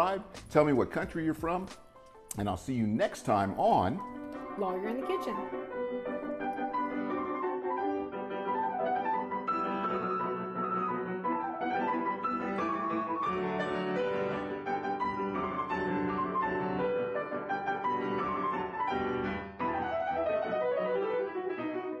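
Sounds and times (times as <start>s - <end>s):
solo piano classical piece: 3.7s - 22.0s.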